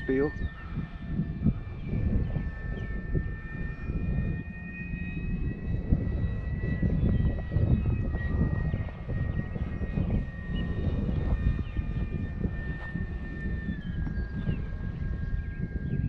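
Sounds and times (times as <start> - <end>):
model plane motor whine: 0.0 - 16.0
wind on microphone: 0.0 - 16.0.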